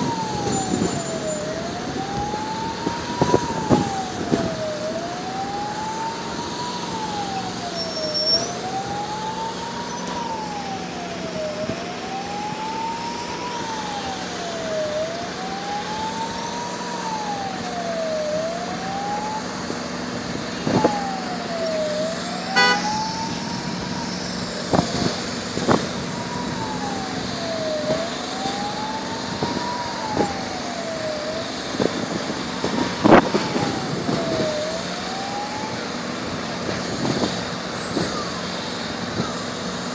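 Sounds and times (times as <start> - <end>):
emergency siren wailing: 0.0 - 39.9
low hum of engines: 0.0 - 39.9.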